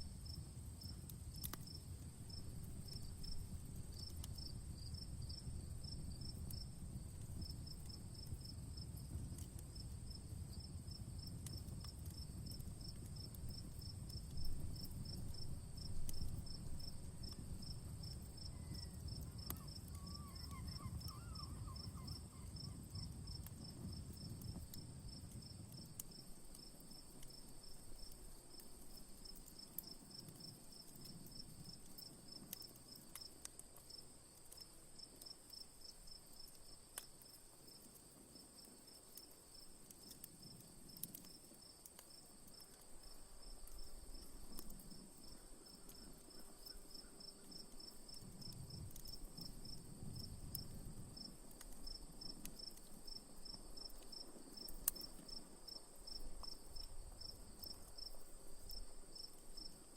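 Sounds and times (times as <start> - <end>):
campfire crackling pops: 0.0 - 59.9
crickets chirping: 0.0 - 59.9.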